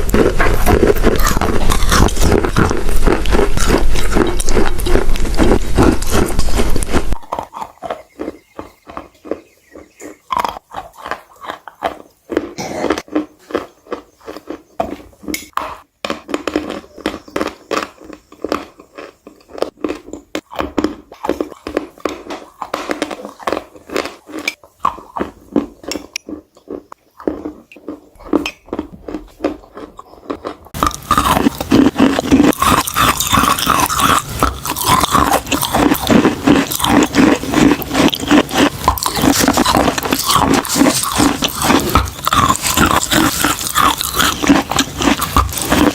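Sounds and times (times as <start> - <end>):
chalk being chewed: 0.0 - 45.9.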